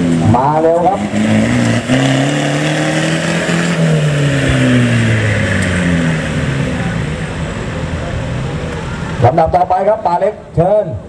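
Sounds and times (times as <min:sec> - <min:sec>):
off-road vehicle engine under throttle: 0:00.0 - 0:10.6.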